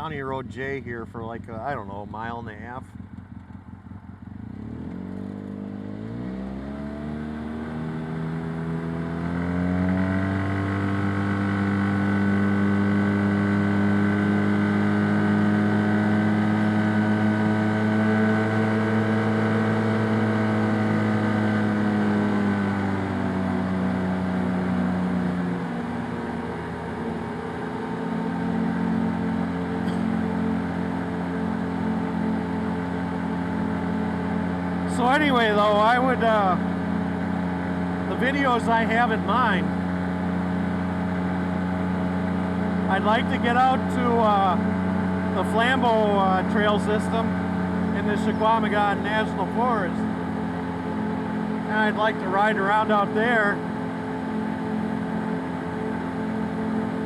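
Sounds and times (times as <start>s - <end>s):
utility vehicle engine: 0.0s - 57.0s.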